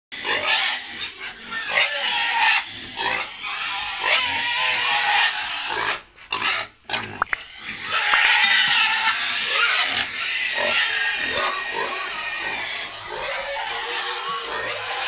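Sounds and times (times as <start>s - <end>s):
pigs grunting and squealing: 0.2s - 8.4s, 10.2s - 15.0s.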